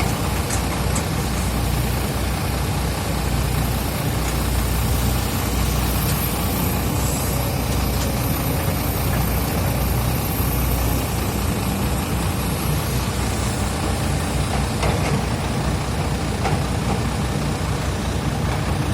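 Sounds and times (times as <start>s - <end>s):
excavator diesel engine rumbling: 0.0s - 18.9s.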